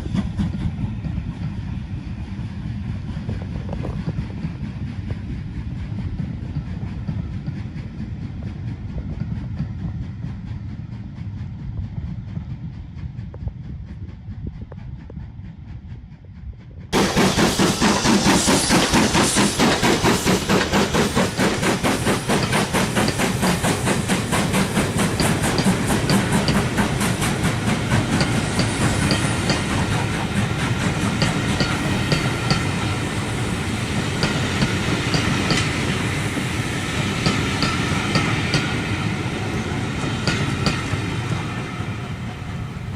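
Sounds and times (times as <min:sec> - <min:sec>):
train wheels clattering on rails: 0:00.0 - 0:16.1, 0:16.9 - 0:42.9
steam train passing: 0:00.0 - 0:42.9.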